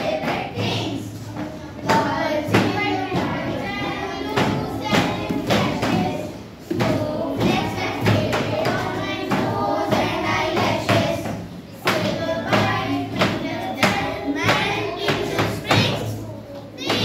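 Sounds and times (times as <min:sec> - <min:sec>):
children singing together: 0:00.0 - 0:17.0.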